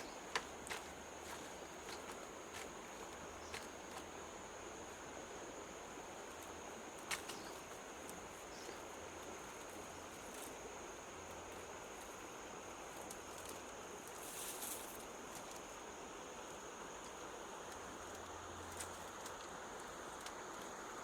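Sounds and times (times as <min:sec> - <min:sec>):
soft forest hiss: 0:00.0 - 0:21.0.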